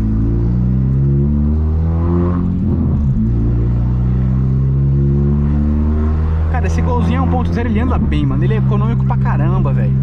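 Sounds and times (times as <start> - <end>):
car engine accelerating through exhaust: 0.0 - 10.0.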